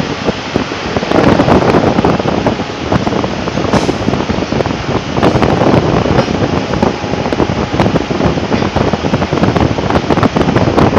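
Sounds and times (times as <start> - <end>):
rolling mill machine din: 0.0 - 10.9.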